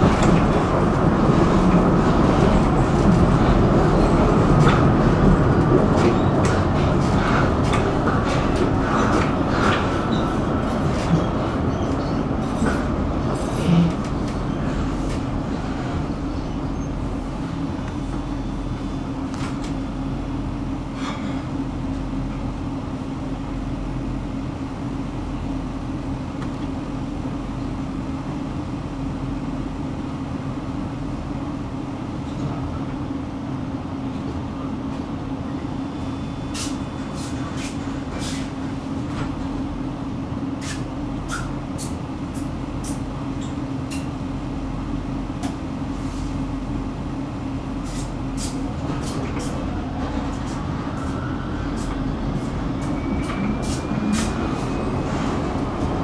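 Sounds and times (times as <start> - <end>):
tram rumbling: 0.0 - 56.0.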